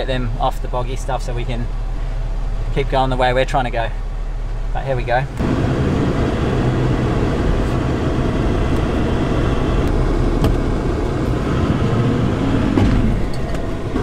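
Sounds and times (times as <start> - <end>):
engine running under load: 0.0 - 14.0.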